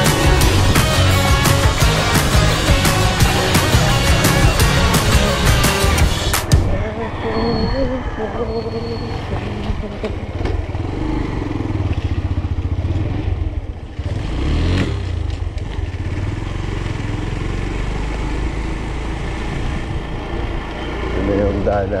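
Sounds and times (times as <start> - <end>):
motorcycle engine running: 0.0 - 6.6, 9.4 - 21.6.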